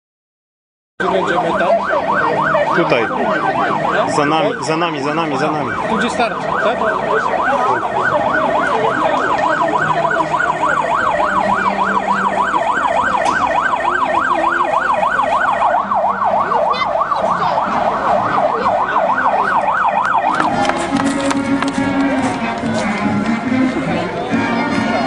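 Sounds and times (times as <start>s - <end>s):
siren yelping: 1.0s - 22.5s.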